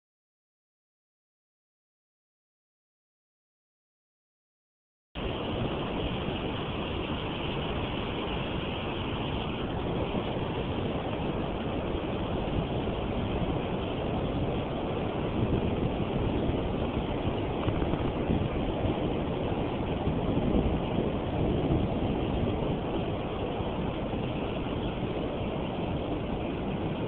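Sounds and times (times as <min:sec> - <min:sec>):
choppy river water rushing: 0:05.2 - 0:27.0
wind buffeting microphone: 0:05.2 - 0:27.0.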